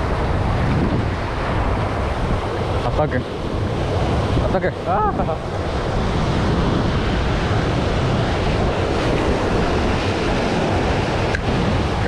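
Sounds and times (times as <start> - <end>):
surf breaking over rocks: 0.0 - 12.0
wind rumbling on microphone: 0.0 - 12.0.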